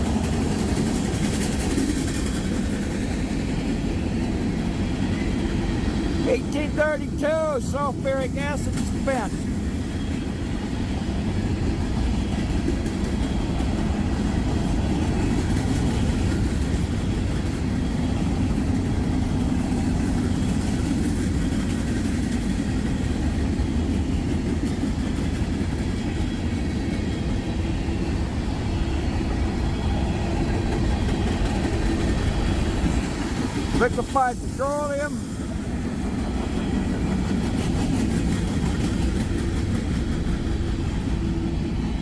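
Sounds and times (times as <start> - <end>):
steel wheels rumbling on rails: 0.0 - 42.0.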